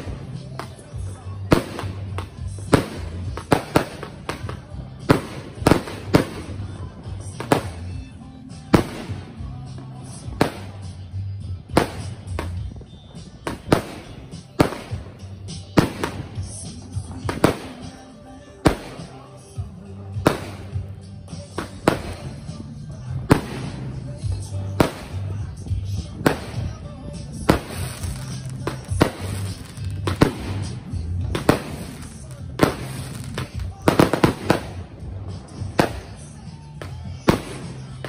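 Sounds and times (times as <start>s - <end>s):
fireworks bangs: 0.0s - 7.9s, 8.7s - 9.4s, 10.2s - 11.0s, 11.7s - 19.2s, 20.1s - 22.5s, 23.2s - 38.0s
music with low bass line: 0.0s - 38.0s.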